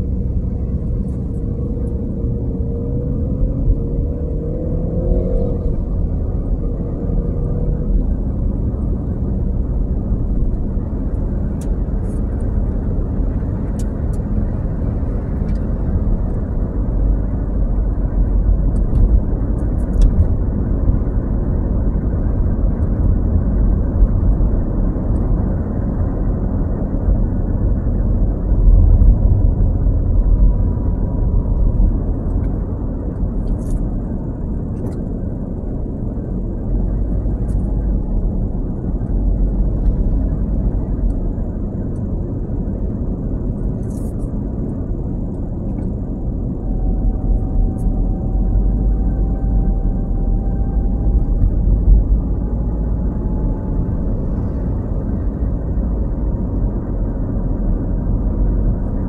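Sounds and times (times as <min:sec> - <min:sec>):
road and engine rumble in car: 0:00.0 - 0:59.0.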